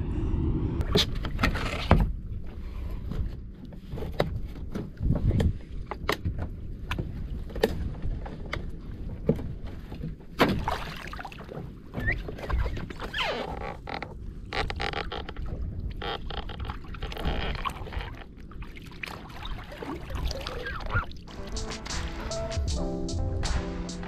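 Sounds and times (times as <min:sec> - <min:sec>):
wind: 0:00.0 - 0:23.8.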